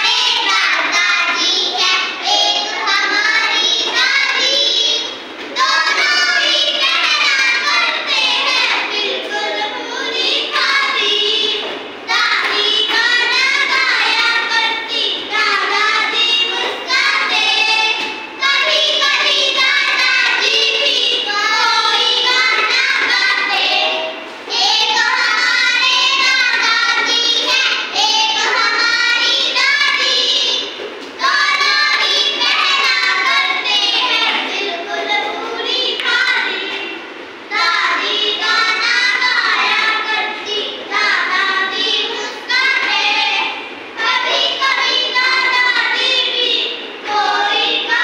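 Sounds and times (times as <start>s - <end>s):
children singing: 0.0s - 48.0s.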